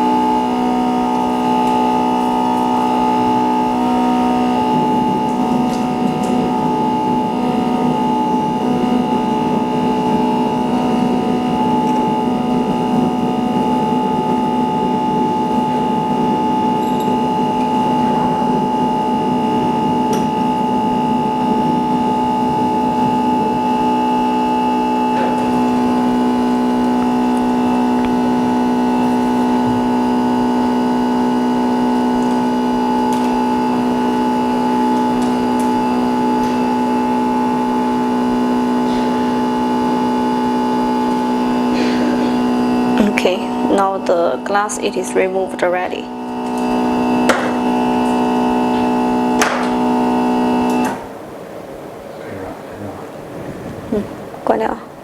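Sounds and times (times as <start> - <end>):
machine electric hum: 0.0 - 55.0.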